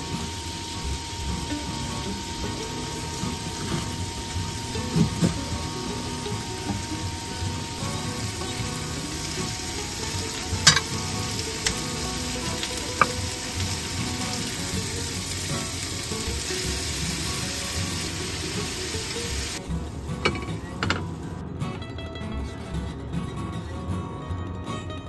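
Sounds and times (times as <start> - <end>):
food sizzling in a frying pan: 0.0 - 21.4.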